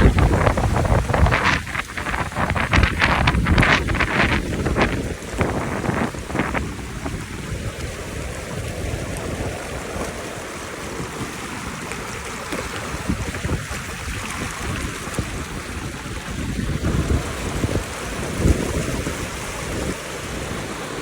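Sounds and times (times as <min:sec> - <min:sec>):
river rushing: 0:00.0 - 0:21.0
wind buffeting microphone: 0:00.0 - 0:21.0.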